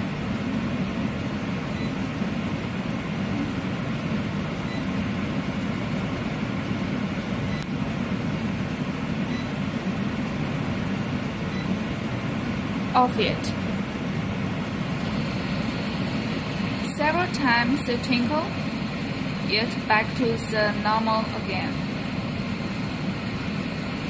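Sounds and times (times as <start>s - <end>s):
dehumidifier humming: 0.0s - 24.0s.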